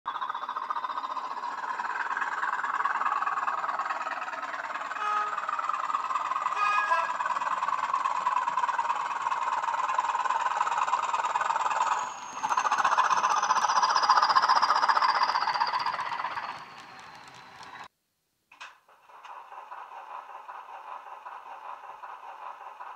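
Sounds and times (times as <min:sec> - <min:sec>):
model locomotive diesel engine sound: 0:00.1 - 0:17.9, 0:18.5 - 0:22.9.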